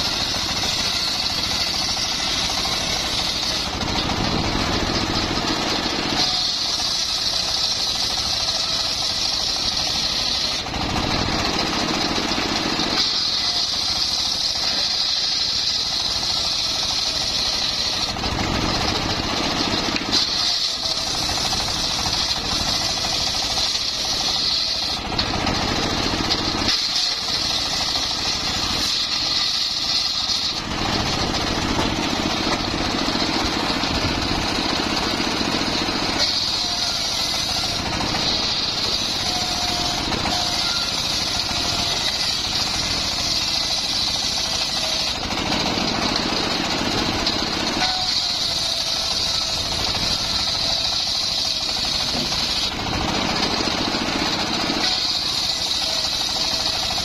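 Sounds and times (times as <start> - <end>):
circular saw sawmill cutting wood: 0.0 - 57.0.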